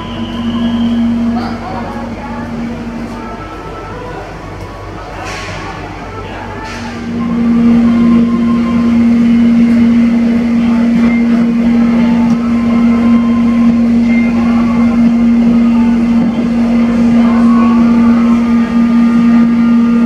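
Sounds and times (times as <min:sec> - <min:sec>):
steady low hum: 0:00.0 - 0:20.0
train wheels on track: 0:00.0 - 0:20.0.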